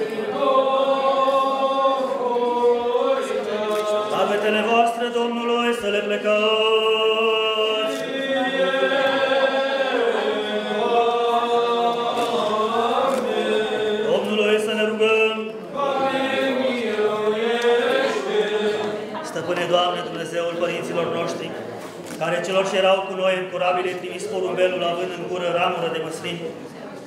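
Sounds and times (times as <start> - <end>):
liturgical chanting: 0.0 - 26.9.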